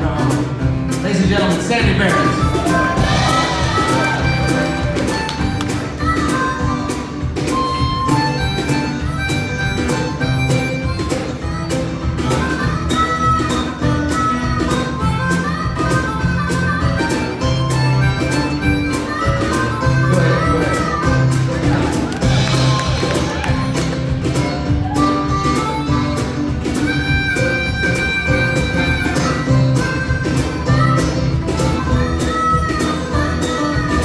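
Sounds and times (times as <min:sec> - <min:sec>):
bass: 0:00.0 - 0:34.0
guitar: 0:00.0 - 0:34.0
sliding bending lead melody: 0:00.0 - 0:34.0
steady drum beat: 0:00.0 - 0:34.0.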